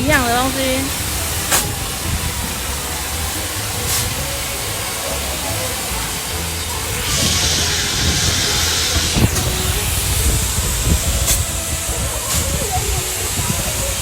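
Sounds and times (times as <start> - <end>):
loud hiss of air: 0.0 - 14.0
low mechanical rumble: 0.0 - 14.0.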